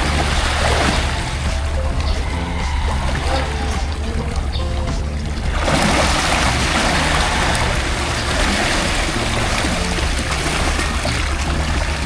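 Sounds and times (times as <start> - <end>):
background music: 0.0 - 12.0
loud rushing noise: 0.0 - 12.0.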